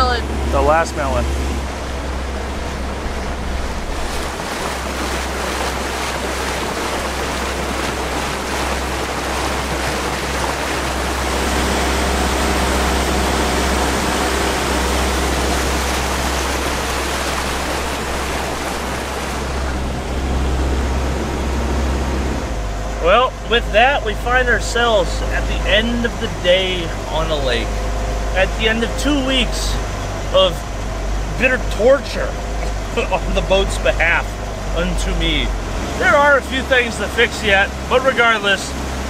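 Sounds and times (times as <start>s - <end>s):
low boat engine drone: 0.0s - 39.0s
water rushing against hull: 0.0s - 39.0s.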